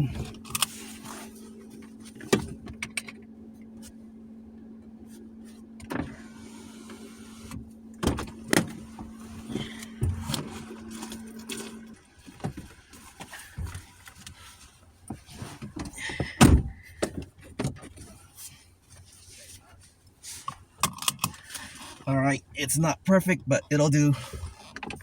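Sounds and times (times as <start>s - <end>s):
car engine idling: 0.0s - 24.8s.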